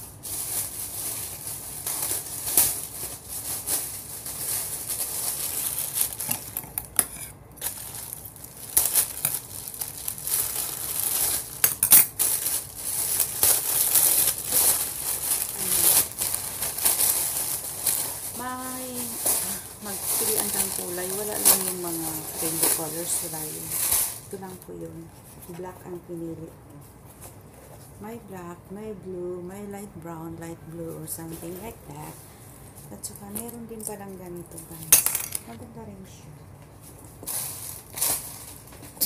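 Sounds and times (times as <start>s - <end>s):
plastic bag crinkling: 0.0s - 7.0s, 7.6s - 25.8s, 31.0s - 35.8s, 36.8s - 39.0s.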